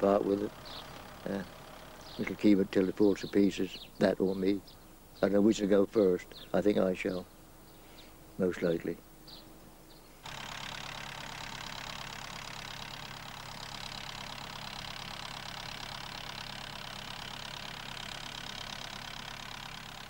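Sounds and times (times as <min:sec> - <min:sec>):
tractor engine running: 0:00.0 - 0:07.3, 0:10.2 - 0:20.0.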